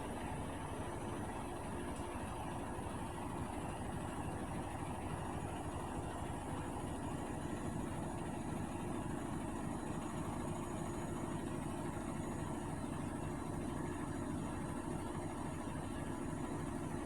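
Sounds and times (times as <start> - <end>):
washing machine rumbling hum: 0.0 - 17.0.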